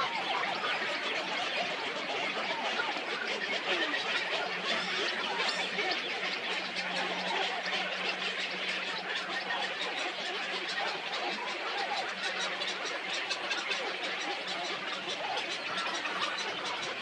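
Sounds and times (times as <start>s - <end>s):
chorus of birds chattering: 0.0s - 17.0s.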